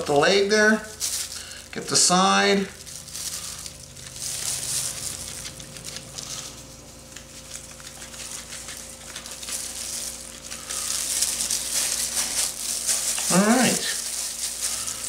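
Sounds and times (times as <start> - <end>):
seasoning pattering on chicken skin: 2.8 - 15.0.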